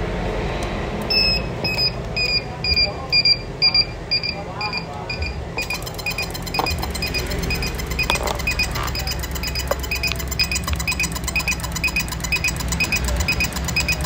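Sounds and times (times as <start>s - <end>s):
steady low hum: 0.0s - 14.0s
fast regular ticking: 1.0s - 14.0s
short electronic beeps: 1.1s - 14.0s.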